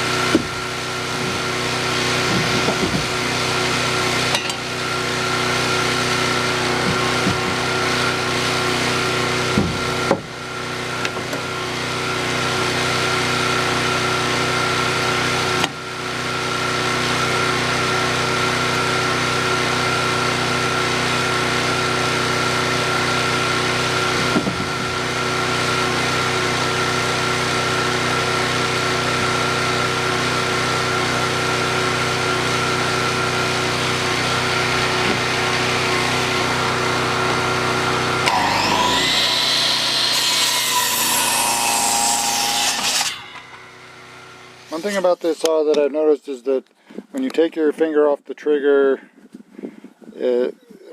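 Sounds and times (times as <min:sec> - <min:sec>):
circular saw cutting wood: 0:00.0 - 0:45.7.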